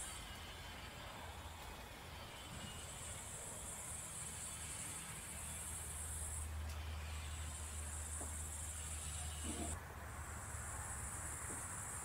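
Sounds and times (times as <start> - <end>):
faint high-pitched hiss: 0.0 - 12.0.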